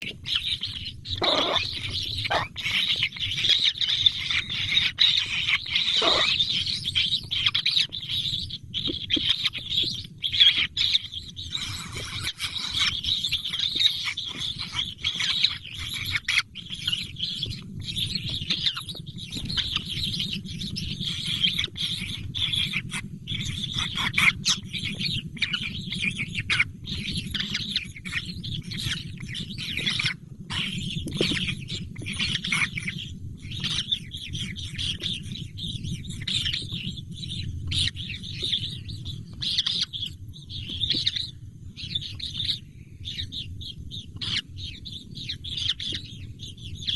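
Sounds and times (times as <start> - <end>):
baby birds chirping: 0.0 - 46.9.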